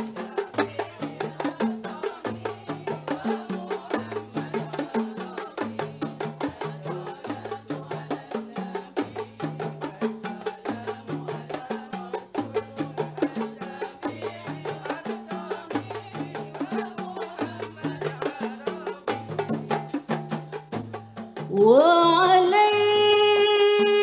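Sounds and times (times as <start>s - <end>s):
frame drums beating: 0.0s - 24.0s.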